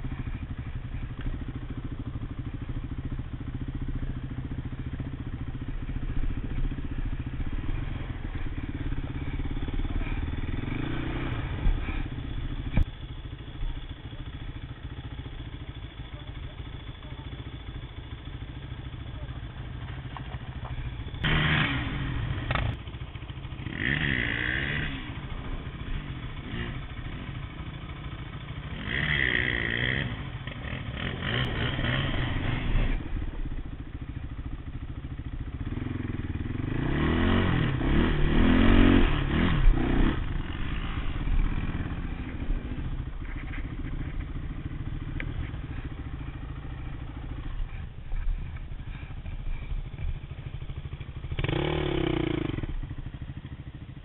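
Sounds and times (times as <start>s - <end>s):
quad bike engines revving: 0.0s - 54.0s.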